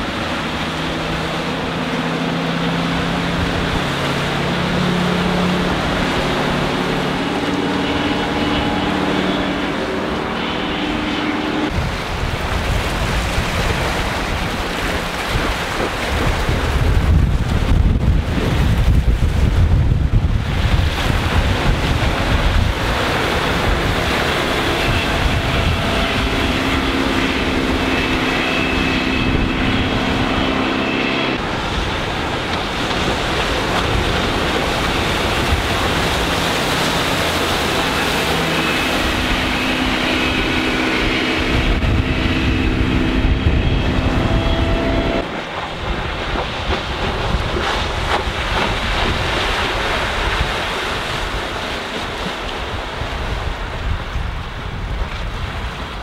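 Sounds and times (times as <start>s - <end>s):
boat engine running: 0.0s - 56.0s
water rushing off hull: 0.0s - 56.0s
wind buffeting microphone: 0.0s - 56.0s.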